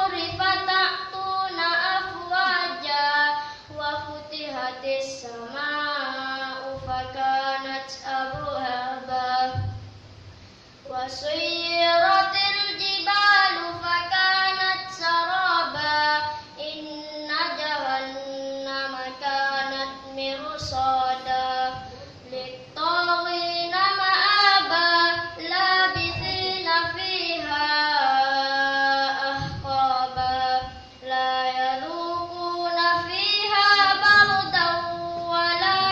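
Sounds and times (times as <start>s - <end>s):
boy chanting recitation: 0.0s - 9.9s, 10.8s - 35.9s.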